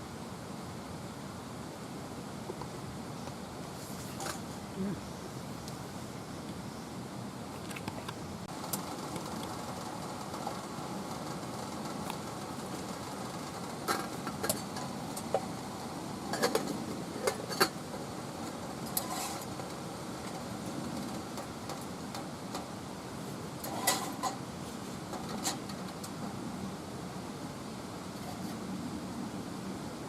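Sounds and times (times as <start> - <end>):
low background noise: 0.0 - 30.0.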